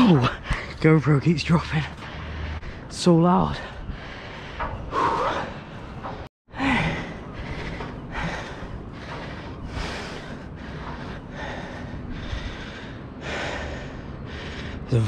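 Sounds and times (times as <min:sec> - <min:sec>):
man breathing hard: 0:02.0 - 0:02.9, 0:03.5 - 0:15.0.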